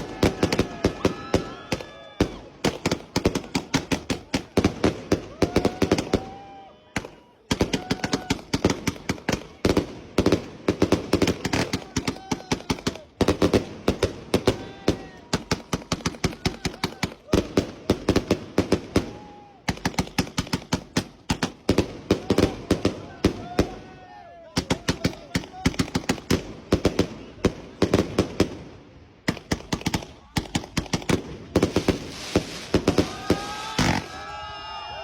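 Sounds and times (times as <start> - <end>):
firecrackers cracking: 0.0 - 6.4, 7.0 - 23.9, 24.6 - 34.5.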